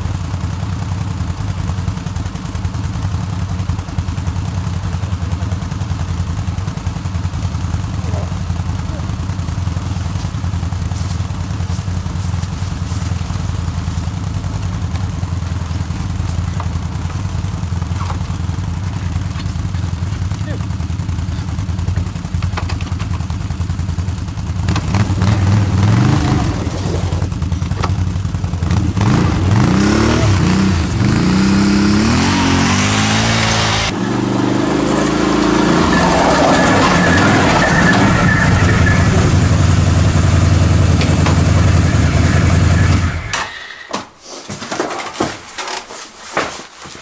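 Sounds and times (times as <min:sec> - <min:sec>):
quad engines revving: 0:00.0 - 0:43.8.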